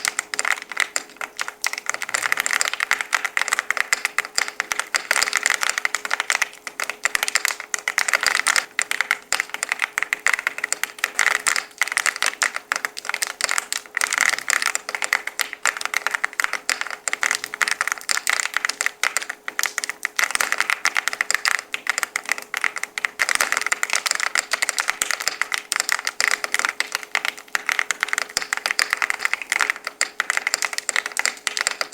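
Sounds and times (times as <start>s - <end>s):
faint steady hum: 0.0s - 31.9s
mechanical keyboard typing: 0.0s - 31.9s.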